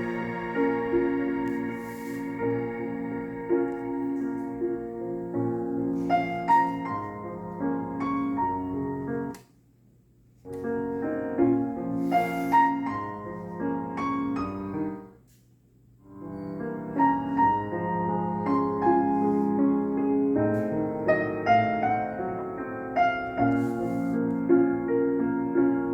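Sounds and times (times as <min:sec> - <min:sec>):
piano music: 0:00.0 - 0:09.4, 0:10.6 - 0:15.1, 0:16.2 - 0:25.9.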